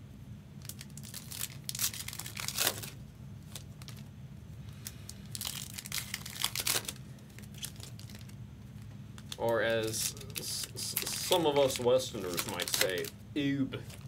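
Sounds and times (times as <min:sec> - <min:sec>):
steady low hum: 0:00.0 - 0:14.0
plastic wrapper crinkling and tearing: 0:00.6 - 0:04.1, 0:04.7 - 0:13.2.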